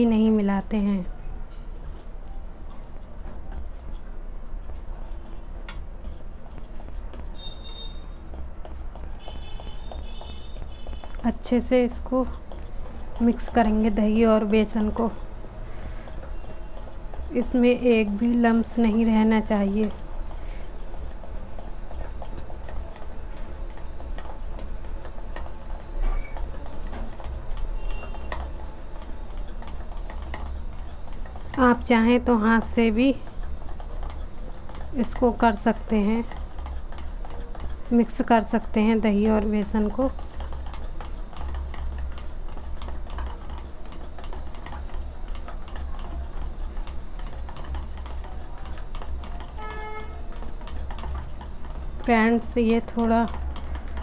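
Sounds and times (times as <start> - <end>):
whisk tapping and scraping metal bowl: 1.9 - 15.3, 15.9 - 54.0.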